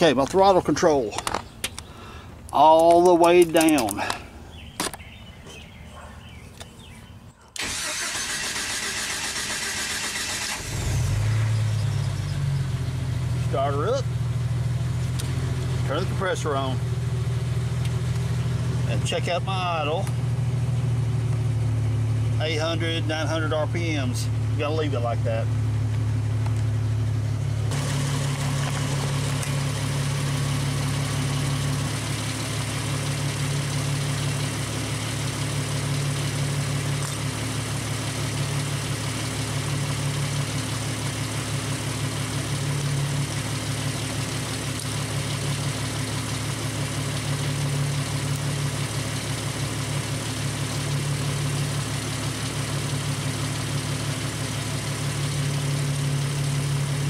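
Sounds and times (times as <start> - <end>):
car engine idling: 7.6 - 57.0.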